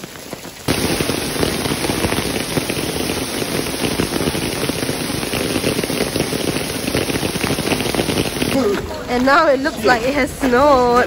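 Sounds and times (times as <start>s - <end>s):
hail crackling on pavement: 0.0s - 11.0s.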